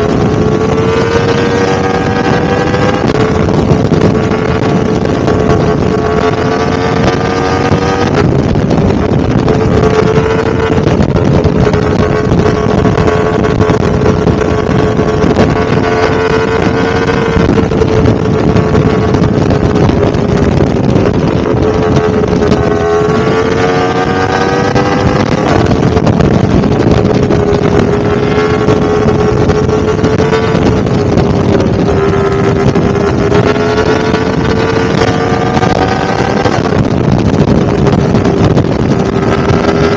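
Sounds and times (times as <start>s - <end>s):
motorcycle engine at high revs: 0.0s - 39.9s
wind noise on microphone: 0.0s - 39.9s.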